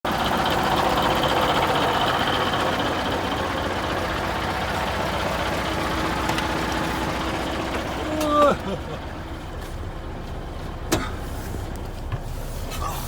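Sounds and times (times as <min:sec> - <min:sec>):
diesel engine idling: 0:00.1 - 0:13.0.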